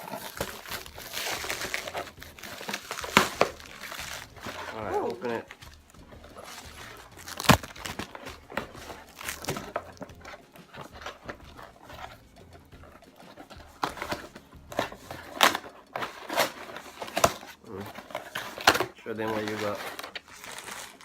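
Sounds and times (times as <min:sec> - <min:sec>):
packaging being torn and crinkled: 0:00.0 - 0:12.2, 0:13.4 - 0:21.0.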